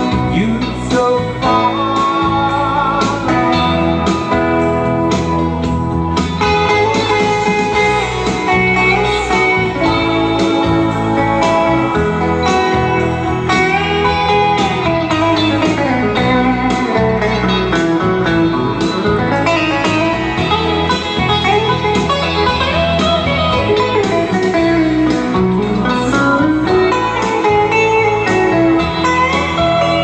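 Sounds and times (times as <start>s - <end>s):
bass guitar: 0.0s - 30.0s
electric guitar lead line: 0.0s - 30.0s.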